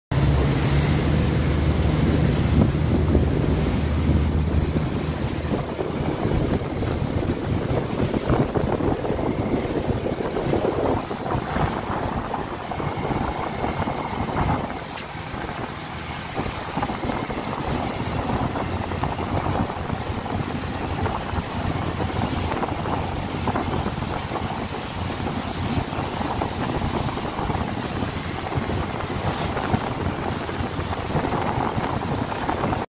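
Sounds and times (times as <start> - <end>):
outboard motor humming: 0.1 - 32.9
wake rushing water: 0.1 - 32.9
wind buffeting microphone: 0.1 - 32.9.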